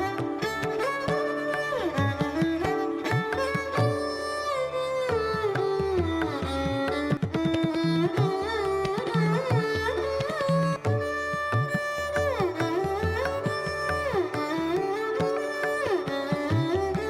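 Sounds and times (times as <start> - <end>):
sitar-like melody: 0.0 - 17.0
tabla-like drumming: 0.0 - 17.0.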